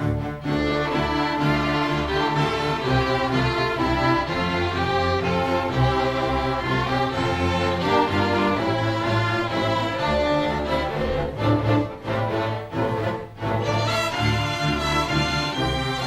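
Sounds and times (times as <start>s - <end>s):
orchestra playing classical music: 0.0s - 16.0s.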